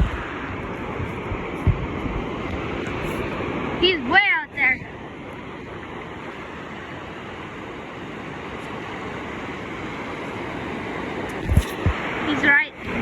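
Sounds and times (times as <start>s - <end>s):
ocean surf rushing: 0.0s - 13.0s
wind: 0.0s - 13.0s.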